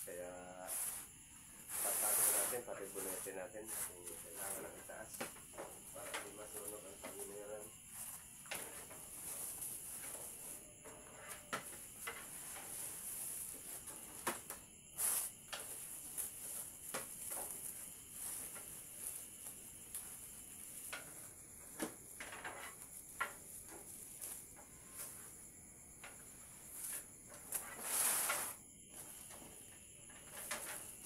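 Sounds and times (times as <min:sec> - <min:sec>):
steady high hiss: 0:00.0 - 0:31.0.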